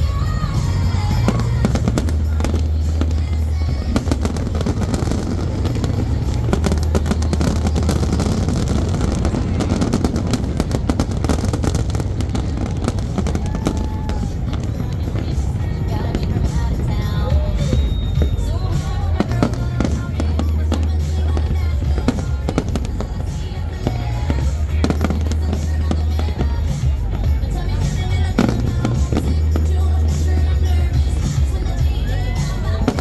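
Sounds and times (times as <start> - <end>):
fireworks bursting and crackling: 0.0 - 33.0
music with deep bass: 0.0 - 33.0.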